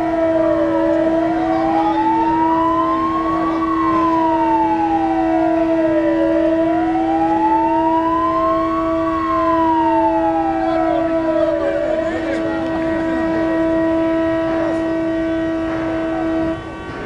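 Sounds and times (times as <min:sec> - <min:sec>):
siren wailing up and down: 0:00.0 - 0:16.8.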